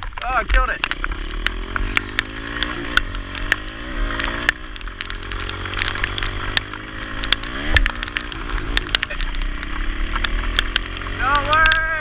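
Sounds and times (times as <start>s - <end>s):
sharp ticks: 0.0s - 12.0s
small motorbike engine revving: 0.4s - 12.0s.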